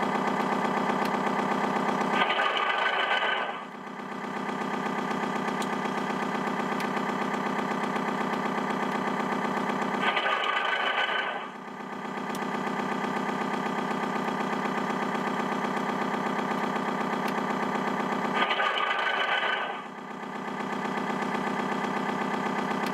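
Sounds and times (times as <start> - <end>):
diesel engine idle through speaker: 0.0 - 22.9.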